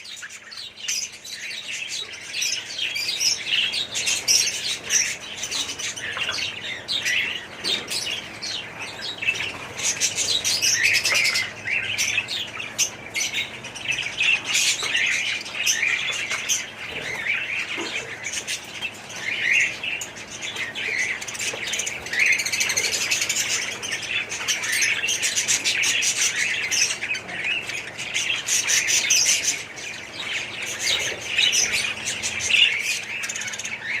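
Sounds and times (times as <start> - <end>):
budgerigars chirping and chattering: 0.0 - 34.0.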